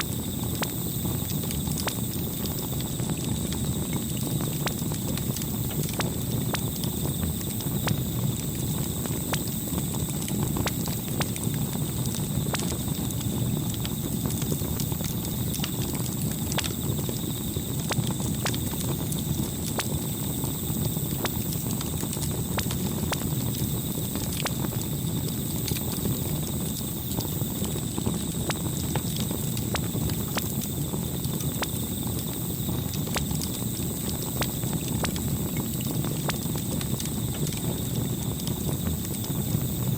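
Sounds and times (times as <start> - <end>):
campfire crackling and popping: 0.0 - 39.9
low rumble of burning wood: 0.0 - 39.9.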